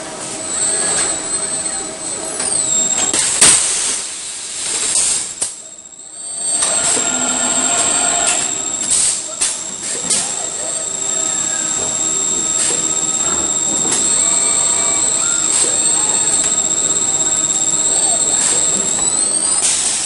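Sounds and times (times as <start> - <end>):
high-pitched machinery whine: 0.0 - 20.0.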